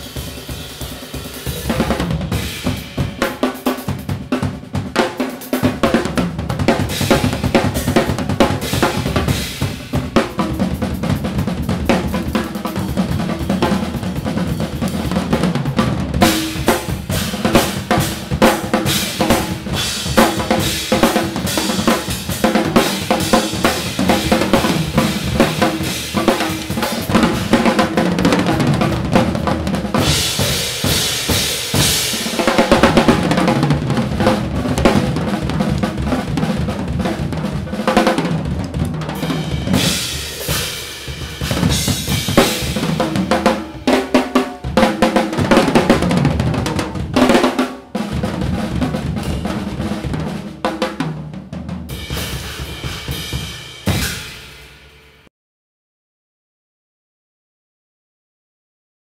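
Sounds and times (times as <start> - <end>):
two drum kits playing: 0.0 - 55.3.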